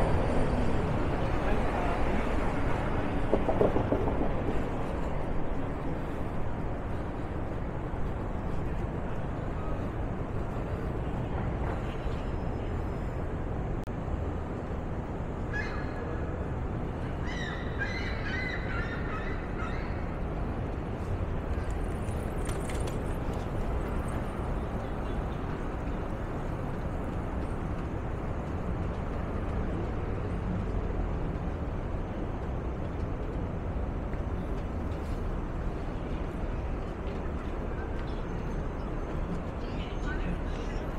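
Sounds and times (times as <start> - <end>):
city traffic rumble: 0.0 - 40.9.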